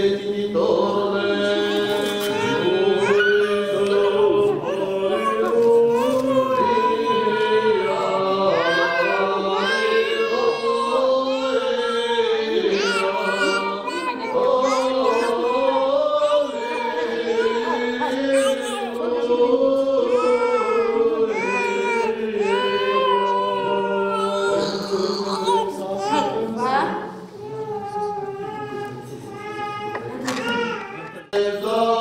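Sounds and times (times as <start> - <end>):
voices chanting: 0.0 - 29.0.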